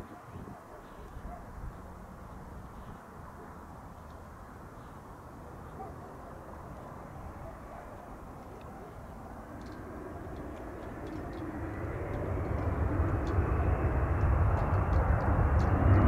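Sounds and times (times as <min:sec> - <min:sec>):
distant jet engines rumbling: 0:00.0 - 0:16.0.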